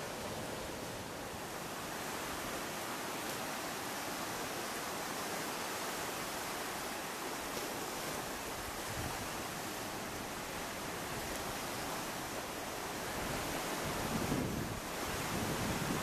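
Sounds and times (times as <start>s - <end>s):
sea surf rushing: 0.0s - 16.0s.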